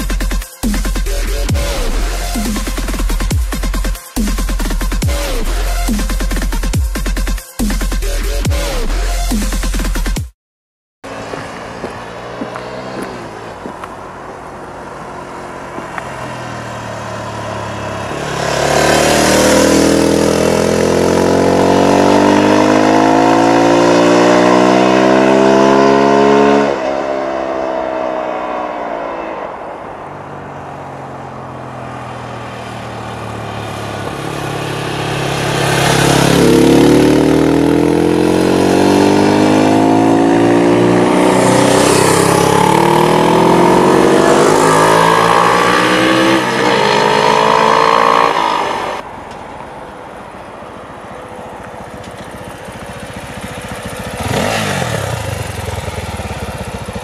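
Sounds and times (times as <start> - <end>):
motorcycles passing by: 11.1 - 57.0.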